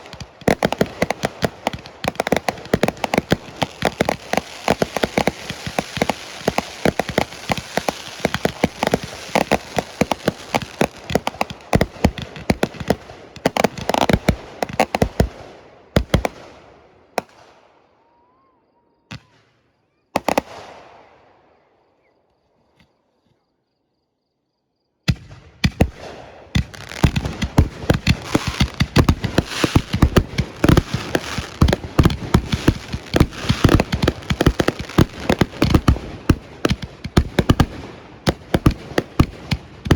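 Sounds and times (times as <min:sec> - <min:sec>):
fireworks bangs and crackle: 0:00.0 - 0:17.6, 0:20.2 - 0:20.8, 0:25.1 - 0:39.9.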